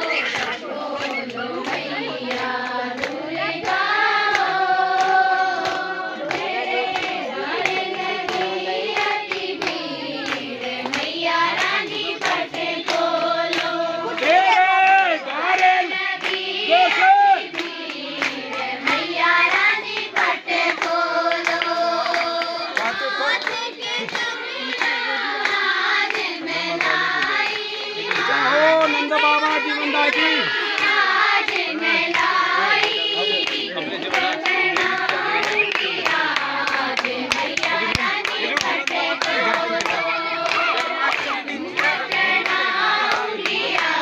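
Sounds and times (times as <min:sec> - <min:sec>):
rhythmic hand-clapping: 0:00.0 - 0:44.0
women singing together: 0:00.0 - 0:44.0.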